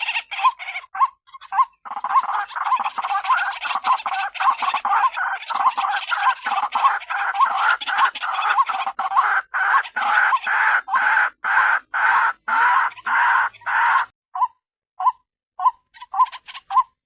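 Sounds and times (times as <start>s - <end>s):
waterhen calls: 0.0s - 14.1s.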